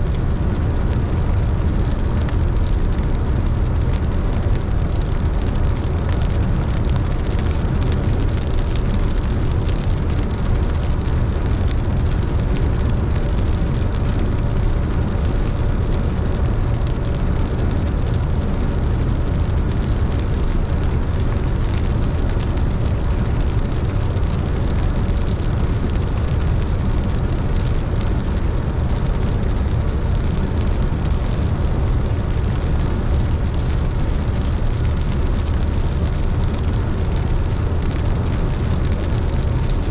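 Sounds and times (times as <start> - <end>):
rain: 0.0 - 39.9
tyre noise on wet road: 0.0 - 39.9.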